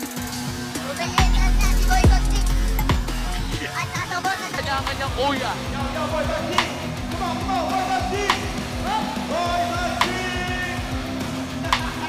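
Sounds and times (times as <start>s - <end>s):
music with deep bass: 0.0s - 12.0s.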